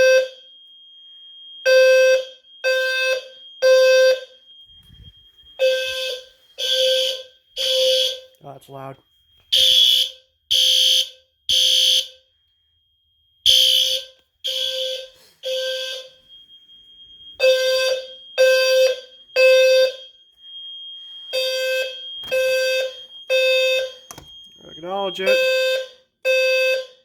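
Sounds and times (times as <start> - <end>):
thin steady high beep: 0.0 - 10.1, 10.8 - 27.0
fire alarm horn blasts: 0.0 - 27.0.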